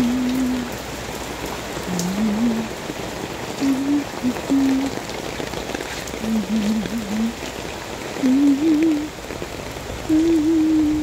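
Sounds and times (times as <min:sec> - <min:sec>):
rain on wet pavement: 0:00.0 - 0:11.0.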